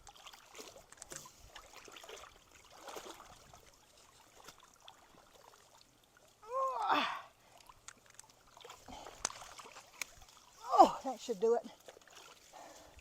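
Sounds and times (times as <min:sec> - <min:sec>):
knocks and splashes: 0:00.0 - 0:06.9, 0:07.5 - 0:12.6
creek water trickling: 0:00.0 - 0:13.0
water splashing: 0:00.0 - 0:13.0.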